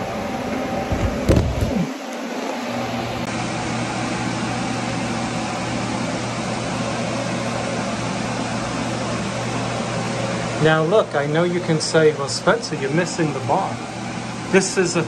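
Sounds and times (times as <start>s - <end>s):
constant low hum: 0.0s - 15.0s
fan whooshing: 0.0s - 15.0s.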